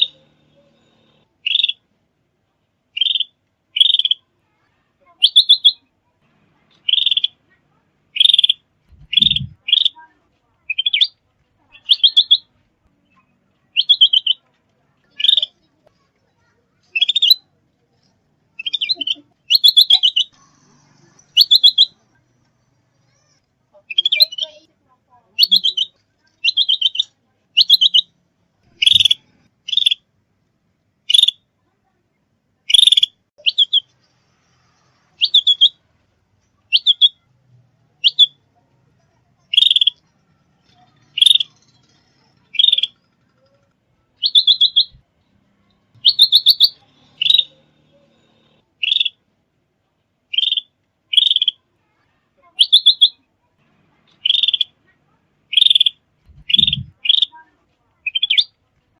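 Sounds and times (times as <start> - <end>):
songbird chirping: 0.0 - 1.9, 2.9 - 4.3, 5.0 - 24.7, 25.3 - 30.0, 31.0 - 31.4, 32.7 - 38.5, 39.1 - 49.2, 50.2 - 51.7, 52.4 - 53.3, 53.9 - 58.6.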